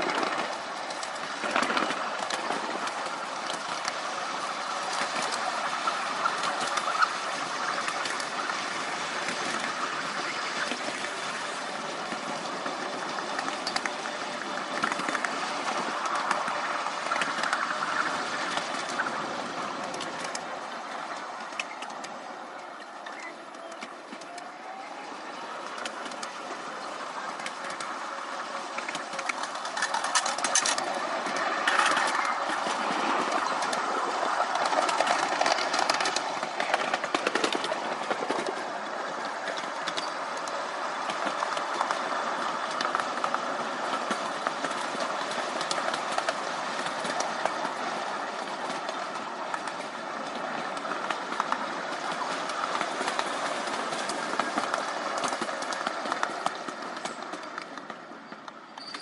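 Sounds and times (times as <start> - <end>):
clicks over rail joints: 0.0 - 59.0
small wheels rumbling on rails: 0.0 - 59.0.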